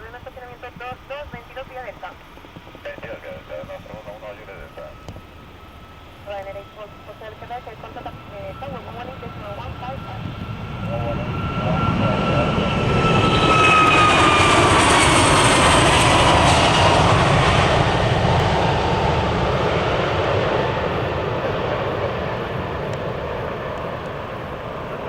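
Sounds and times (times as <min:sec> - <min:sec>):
jet engines roaring past: 0:00.0 - 0:25.0.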